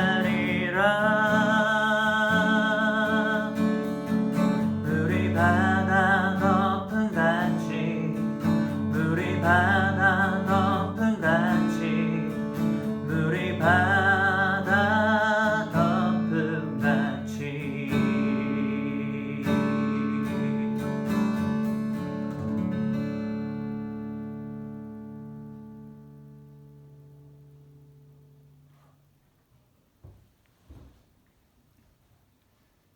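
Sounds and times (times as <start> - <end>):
acoustic guitar strumming: 0.0 - 28.8.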